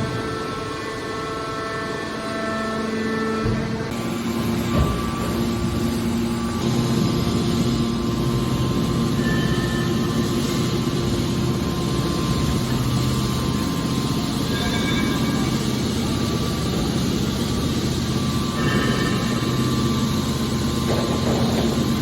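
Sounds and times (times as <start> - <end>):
hydraulic baler humming: 0.0 - 22.0.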